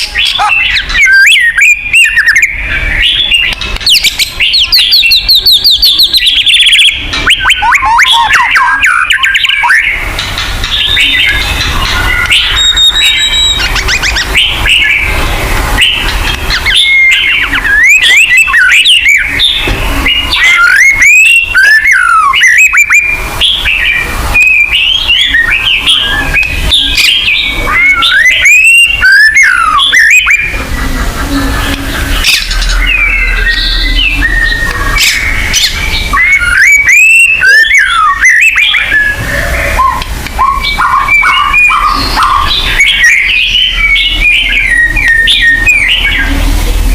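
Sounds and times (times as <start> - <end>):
bird singing whistled phrases: 0.0 - 15.2, 15.8 - 30.7, 31.6 - 46.6.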